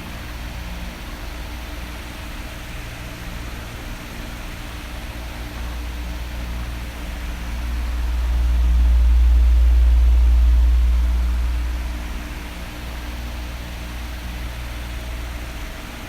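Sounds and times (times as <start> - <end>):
electric fan running: 0.0 - 16.0.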